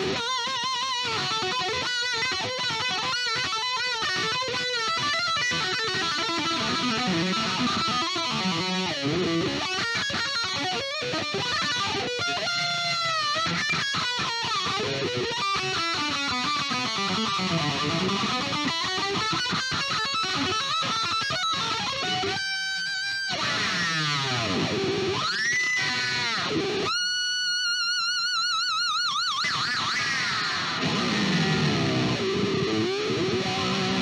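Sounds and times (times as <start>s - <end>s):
distorted electric guitar solo: 0.0s - 34.0s.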